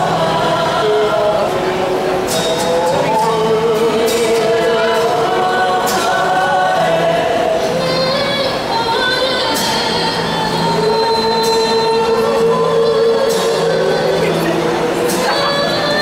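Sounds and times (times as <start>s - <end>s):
acoustic guitar: 0.0s - 16.0s
group of voices singing: 0.0s - 16.0s.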